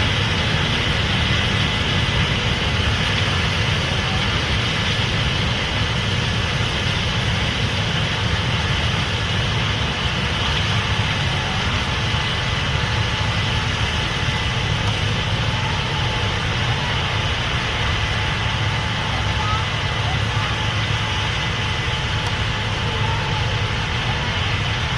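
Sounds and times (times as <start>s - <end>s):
combine harvester rumbling: 0.0s - 24.9s
steady hiss: 0.0s - 24.9s.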